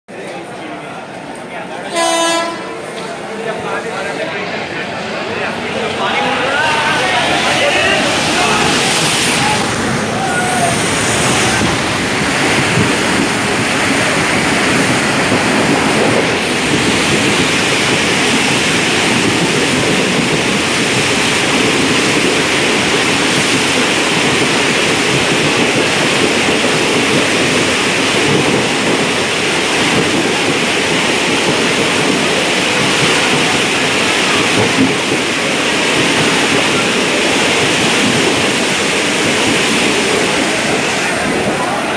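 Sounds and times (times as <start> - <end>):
heavy rain pouring: 2.0 - 41.9.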